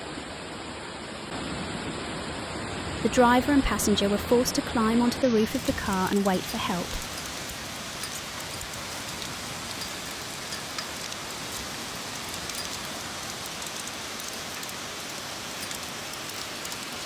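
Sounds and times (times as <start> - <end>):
heavy rain falling: 2.6 - 17.0.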